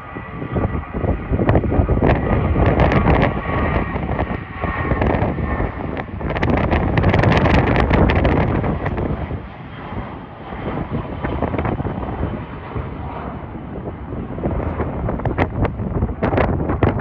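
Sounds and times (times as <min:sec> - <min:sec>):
jet airliner engine: 0:00.0 - 0:17.0
wind gusts buffeting microphone: 0:00.0 - 0:17.0.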